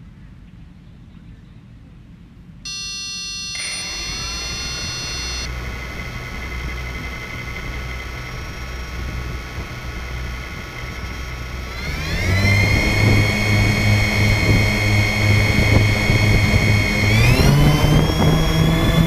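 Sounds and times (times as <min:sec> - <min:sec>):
drone motors whining: 0:02.7 - 0:19.0
high electronic whine: 0:02.7 - 0:19.0
propellers rushing: 0:02.7 - 0:19.0.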